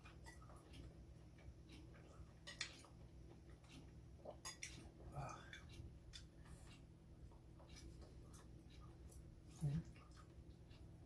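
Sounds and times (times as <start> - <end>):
low steady hum: 0.0 - 11.0
person chewing food: 0.0 - 11.0.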